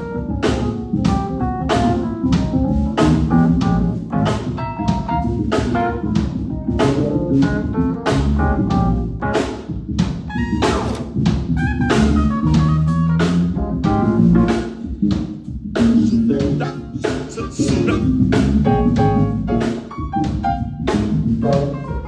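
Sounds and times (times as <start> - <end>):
bass: 0.0 - 22.0
drum kit steady beat: 0.0 - 22.0
organ-toned keyboard chords: 0.0 - 22.0.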